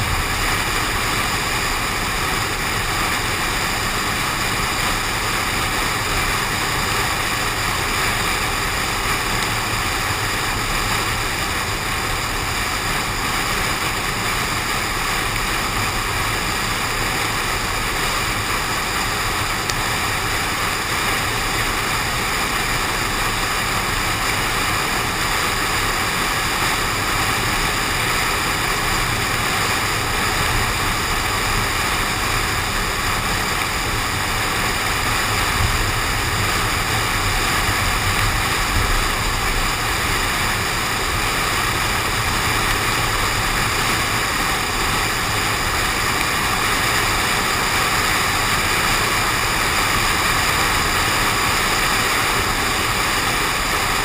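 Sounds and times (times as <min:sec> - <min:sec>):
road noise: 0:00.0 - 0:54.0
rushing wind: 0:00.0 - 0:54.0.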